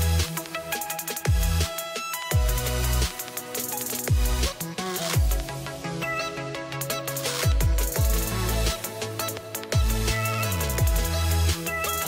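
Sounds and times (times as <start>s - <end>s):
hi-hat ticks: 0.0s - 5.7s, 6.8s - 12.0s.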